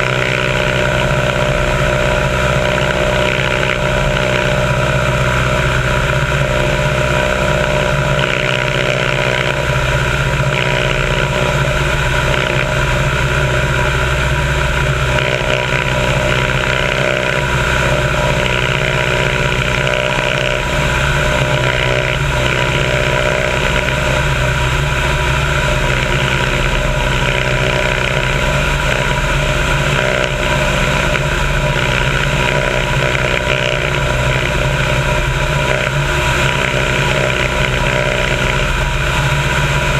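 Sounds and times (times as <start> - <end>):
airflow rushing over wing: 0.0 - 39.9
propeller plane engine cruising: 0.0 - 39.9.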